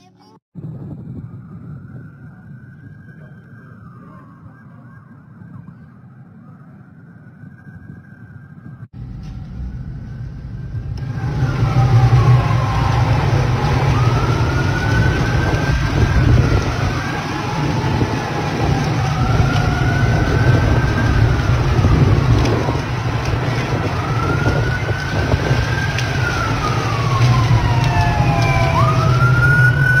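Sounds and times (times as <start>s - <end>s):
emergency sirens wailing: 0.6s - 8.9s, 9.8s - 30.0s
steady low rumble: 0.6s - 29.8s.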